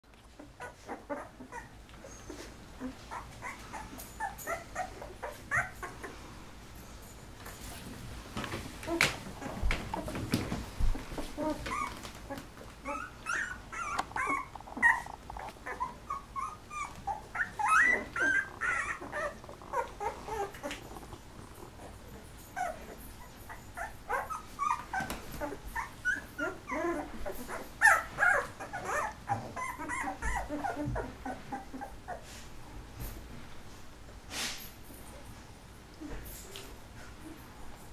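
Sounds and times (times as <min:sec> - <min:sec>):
puppies whimpering and squeaking: 0:00.2 - 0:07.9, 0:08.8 - 0:33.2.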